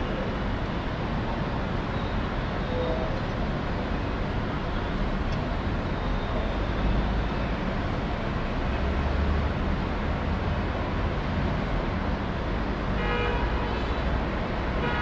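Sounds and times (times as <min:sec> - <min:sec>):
distant city traffic: 0:00.0 - 0:15.0.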